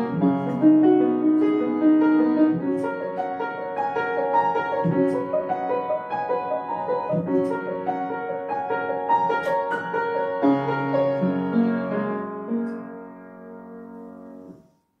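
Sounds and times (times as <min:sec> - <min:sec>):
upright piano playing: 0:00.0 - 0:14.7.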